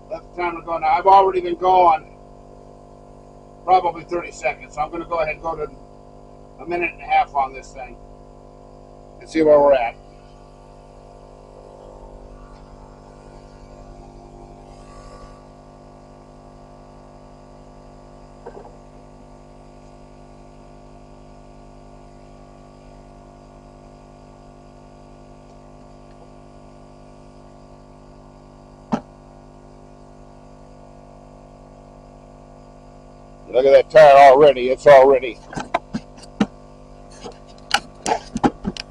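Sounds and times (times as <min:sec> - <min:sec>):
tire inflator compressor humming: 0:00.0 - 0:38.9.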